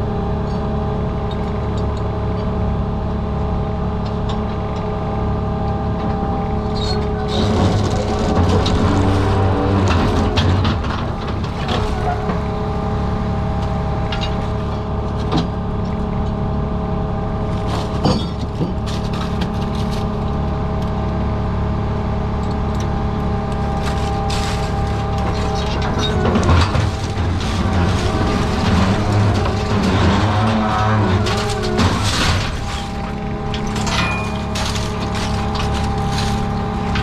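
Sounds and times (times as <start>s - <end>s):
boat engine and machinery rumble: 0.0s - 37.0s.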